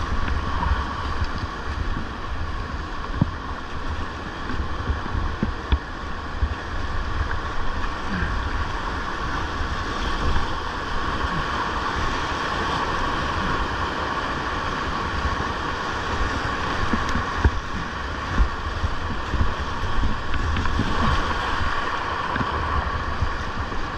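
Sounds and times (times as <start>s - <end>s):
river whitewater rushing: 0.0s - 23.9s
wind buffeting microphone: 0.0s - 23.9s.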